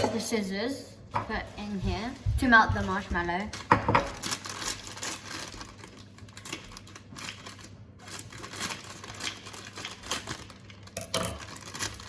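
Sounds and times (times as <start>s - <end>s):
kitchen items clicking and rustling: 1.1s - 12.0s.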